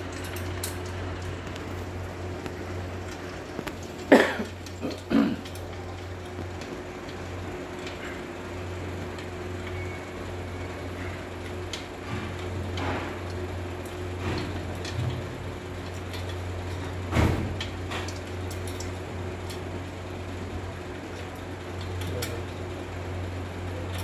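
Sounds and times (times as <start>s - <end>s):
metal parts clicking and knocking: 0.0s - 24.0s
steady low hum: 0.0s - 24.0s.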